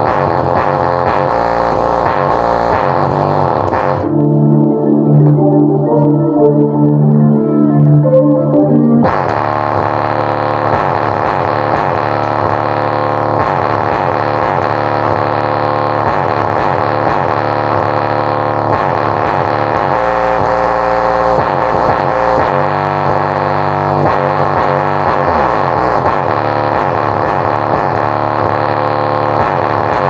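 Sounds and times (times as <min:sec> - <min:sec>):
subwoofer playing sliding tones: 0:00.0 - 0:30.0.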